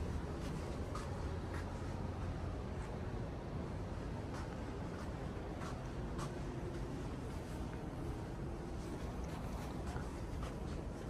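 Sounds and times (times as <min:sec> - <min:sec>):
low background rumble and hiss: 0:00.0 - 0:11.0.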